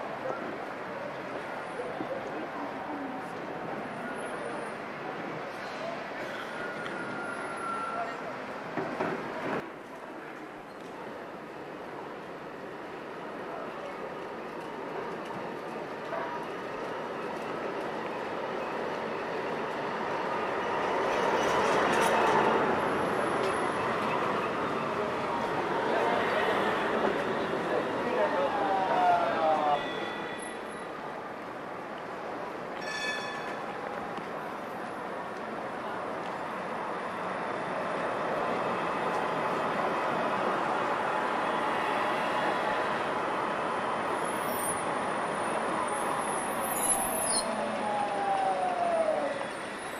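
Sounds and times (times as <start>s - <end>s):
tram running on rails: 0.0s - 49.9s.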